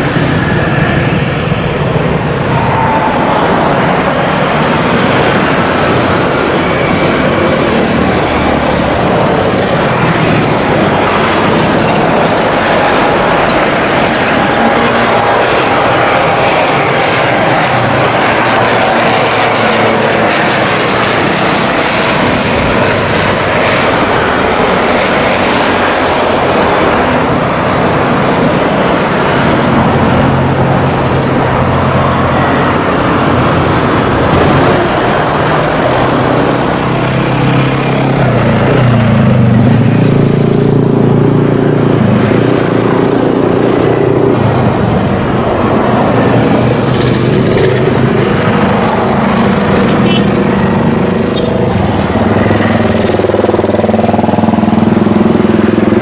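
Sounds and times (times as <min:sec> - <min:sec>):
turboprop engines at high power: 0:00.0 - 0:56.0.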